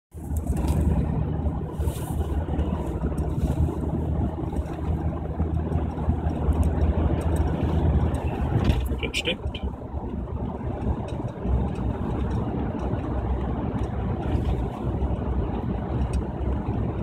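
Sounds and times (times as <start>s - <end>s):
car engine running: 0.1s - 17.0s.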